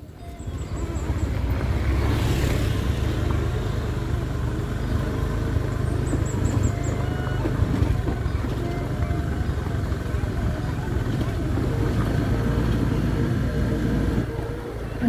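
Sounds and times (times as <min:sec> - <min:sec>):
motorcycle engine and road rumble: 0:00.0 - 0:15.0.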